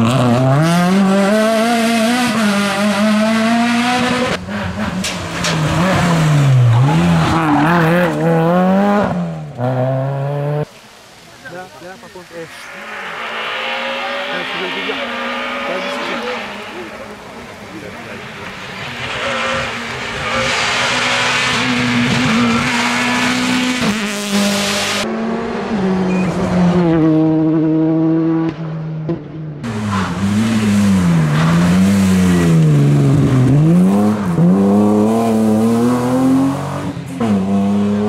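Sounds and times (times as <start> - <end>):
rally car engines revving: 0.0 - 10.8, 11.6 - 38.0.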